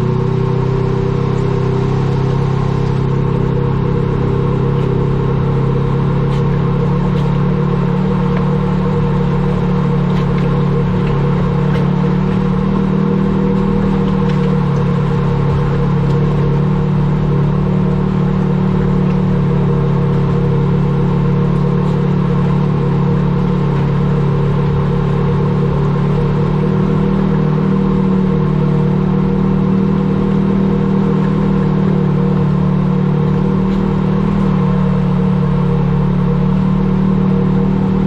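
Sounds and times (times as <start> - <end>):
vehicle engine droning: 0.0 - 38.0.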